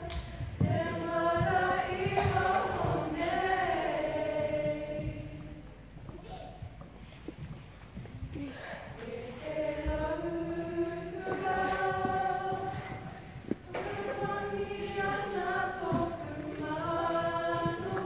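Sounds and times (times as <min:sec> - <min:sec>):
group singing together: 0:00.0 - 0:05.8, 0:08.6 - 0:18.0.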